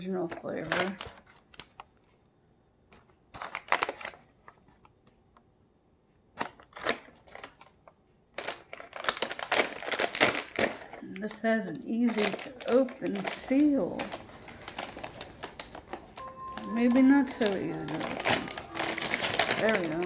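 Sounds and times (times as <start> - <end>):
plastic snack bag crinkling: 0.0 - 2.1, 2.9 - 4.9, 6.4 - 20.0.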